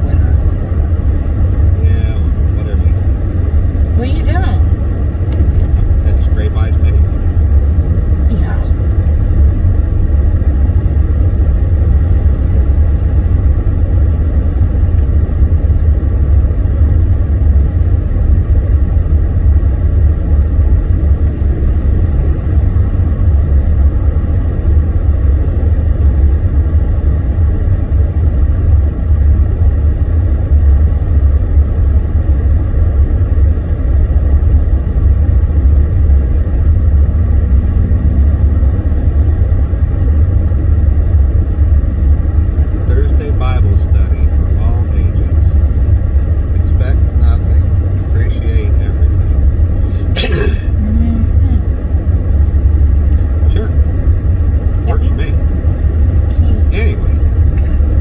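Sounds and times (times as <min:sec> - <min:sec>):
car interior engine and road noise: 0:00.0 - 0:58.0.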